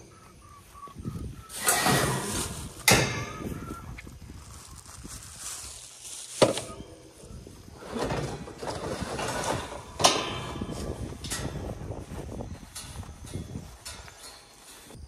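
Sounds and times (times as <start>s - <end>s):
rustling and handling noise: 1.5s - 15.0s.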